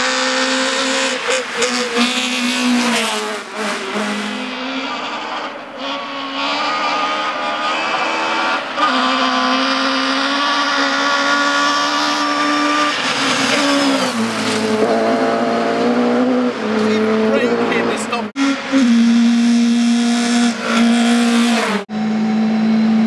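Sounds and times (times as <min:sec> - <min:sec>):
rally car engine at high revs: 0:00.0 - 0:23.0.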